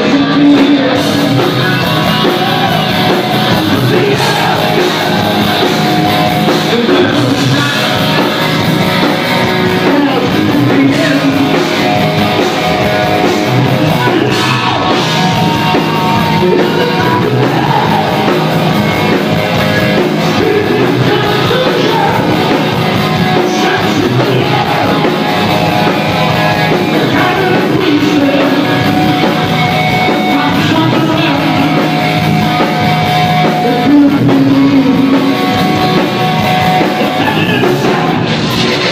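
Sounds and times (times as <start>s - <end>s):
loud rock music with singing: 0.0s - 38.9s.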